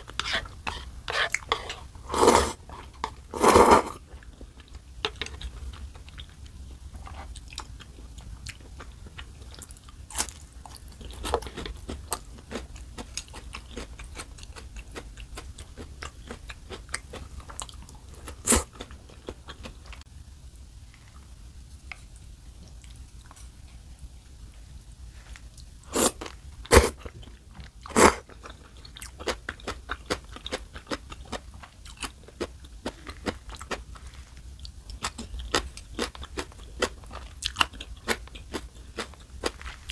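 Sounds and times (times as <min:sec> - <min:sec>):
person chewing and crunching food: 0:00.0 - 0:06.4, 0:07.0 - 0:20.0, 0:25.2 - 0:39.9.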